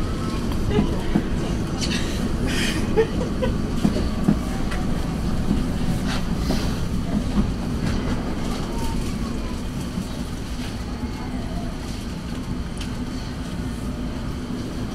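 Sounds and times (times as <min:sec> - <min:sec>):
tram low rumble: 0:00.0 - 0:14.9.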